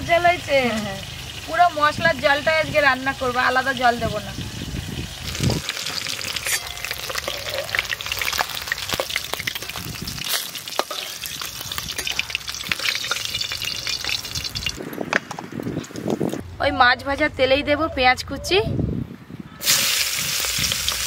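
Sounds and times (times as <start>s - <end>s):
oil crackling and sizzling: 0.0s - 16.4s, 19.6s - 21.0s.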